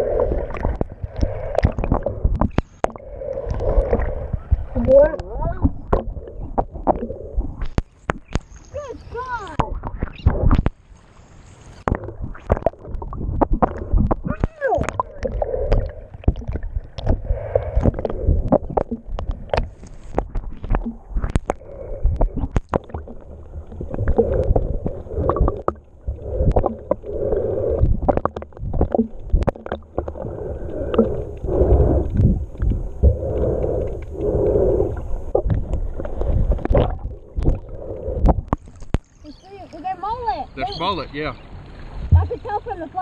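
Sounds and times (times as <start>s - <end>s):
underwater water rumbling: 0.0s - 11.0s, 11.6s - 40.7s, 41.4s - 43.0s.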